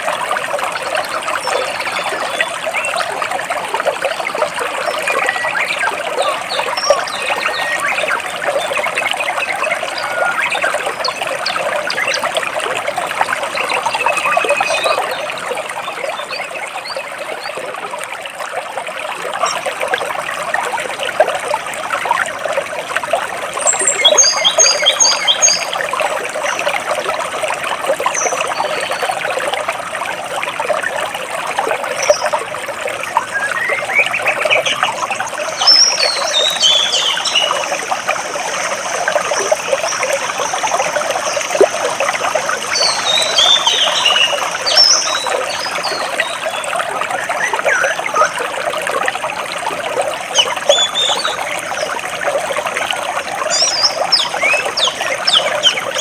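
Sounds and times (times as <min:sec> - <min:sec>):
stream splashing between rocks: 0:00.0 - 0:56.0.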